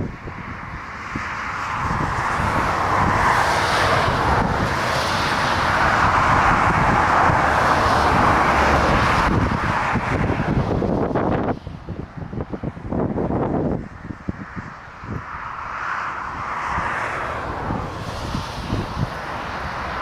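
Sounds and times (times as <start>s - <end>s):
jet airliner engines: 0.0s - 20.0s
wind gusting on microphone: 0.0s - 20.0s.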